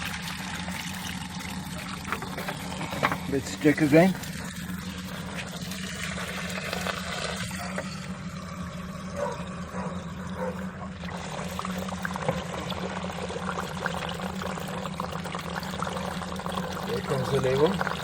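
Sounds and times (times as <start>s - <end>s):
steady low hum: 0.0s - 17.1s
water pouring and trickling: 0.0s - 18.0s.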